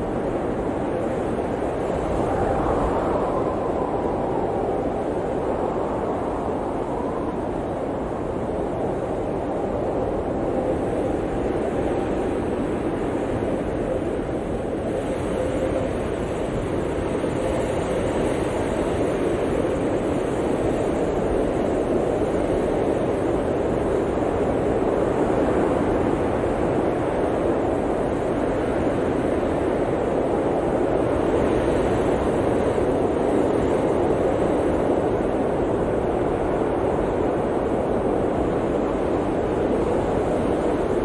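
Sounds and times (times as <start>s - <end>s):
blizzard wind blowing: 0.0s - 41.0s.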